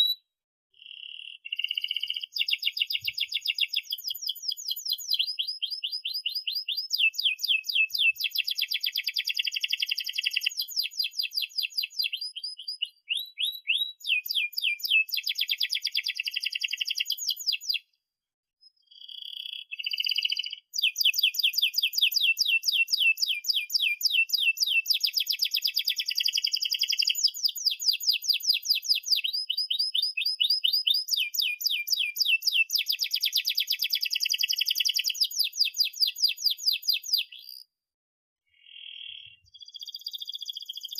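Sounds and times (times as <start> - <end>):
canary singing trills: 0.8 - 17.9, 18.6 - 37.7, 38.5 - 40.9.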